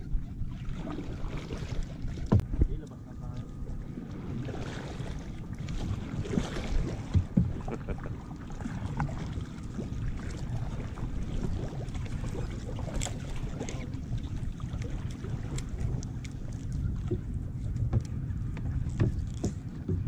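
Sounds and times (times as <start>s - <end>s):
water sloshing against boat hull: 0.0s - 20.0s
wind buffeting microphone: 0.0s - 20.0s.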